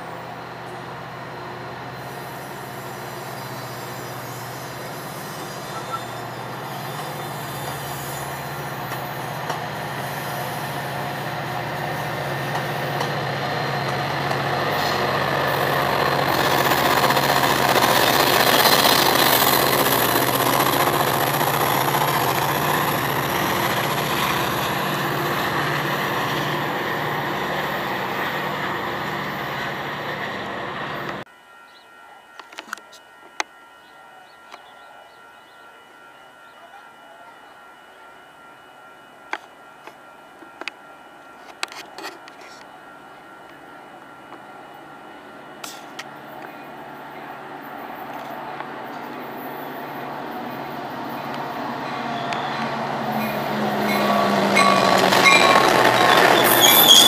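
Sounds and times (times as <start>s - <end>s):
train wheels rumbling on rails: 0.0s - 31.3s, 39.2s - 57.0s
diesel locomotive drone: 0.0s - 57.0s.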